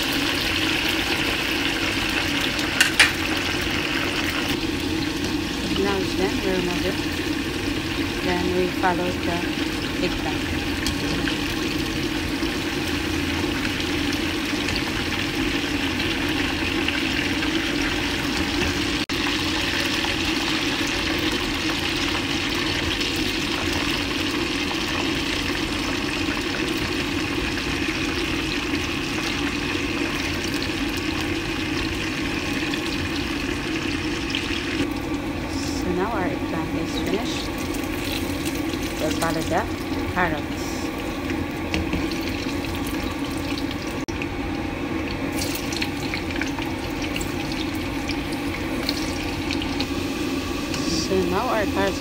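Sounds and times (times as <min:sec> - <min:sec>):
hot oil sizzling in a pan: 0:00.0 - 0:52.0.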